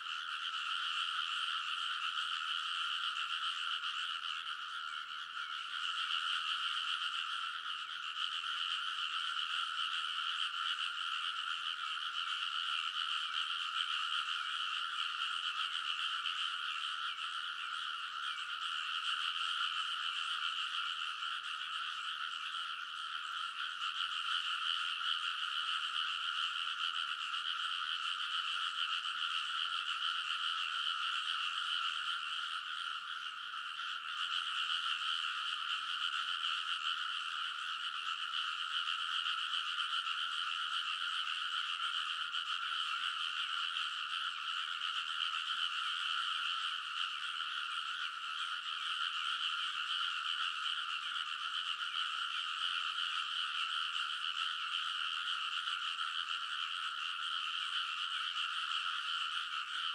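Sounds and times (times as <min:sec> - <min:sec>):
frogs croaking in chorus: 0:00.0 - 0:59.9.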